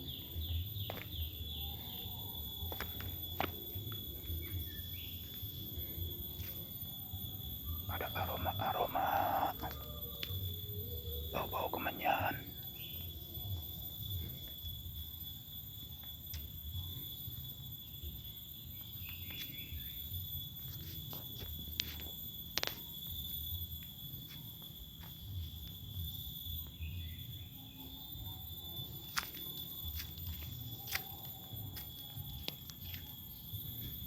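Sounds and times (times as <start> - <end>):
faint chirps: 0.0 - 34.0
insects trilling: 0.0 - 34.0.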